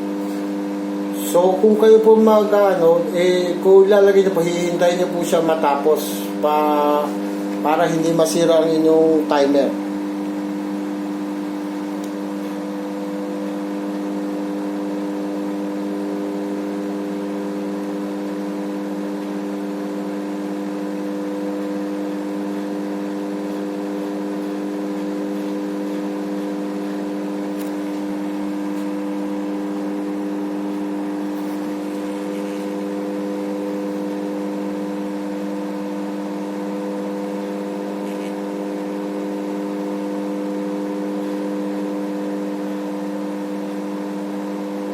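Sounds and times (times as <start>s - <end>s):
microwave oven humming: 0.0s - 44.9s.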